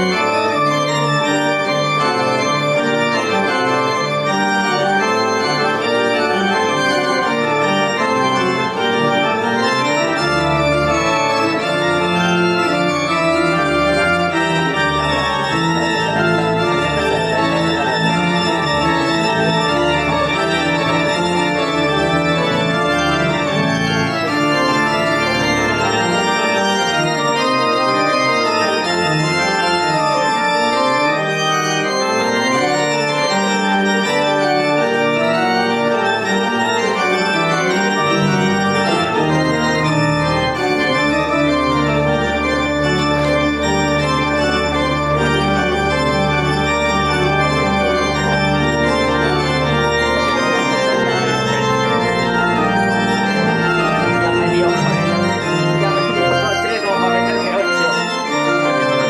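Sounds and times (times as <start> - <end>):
church organ chords: 0.0 - 59.0
deep organ bass notes: 0.0 - 59.0.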